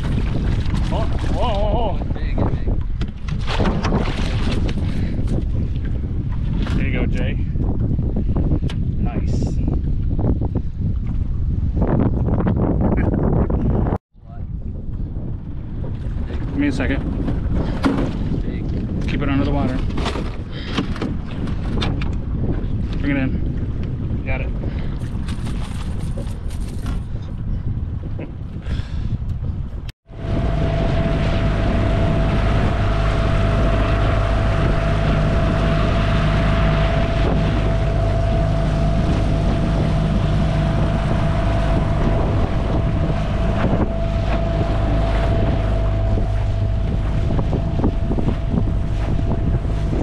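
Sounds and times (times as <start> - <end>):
boat wake splashing: 0.0 - 11.7, 14.2 - 27.2, 30.0 - 50.0
outboard motor running: 0.0 - 13.8, 14.8 - 27.5, 30.0 - 50.0
choppy water: 0.0 - 50.0
wind on microphone: 0.0 - 50.0.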